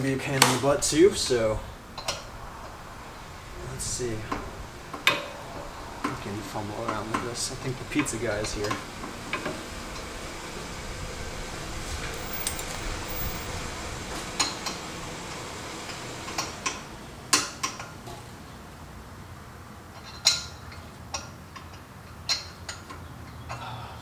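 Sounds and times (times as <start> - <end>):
low steady hum: 0.0 - 21.7.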